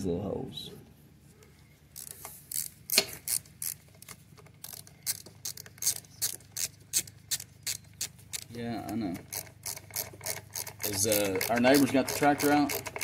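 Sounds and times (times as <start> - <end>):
socket ratchet clicking: 1.9 - 8.5, 9.2 - 13.0.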